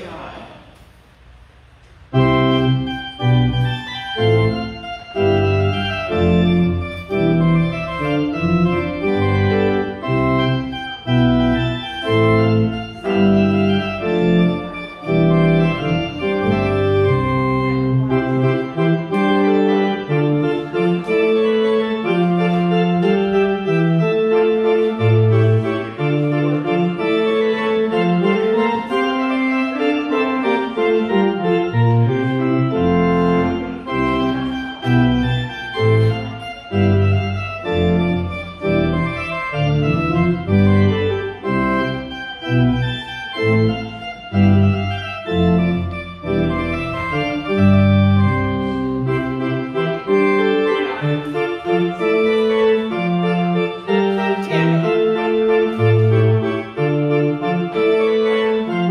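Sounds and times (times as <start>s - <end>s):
organ music: 1.6s - 58.9s.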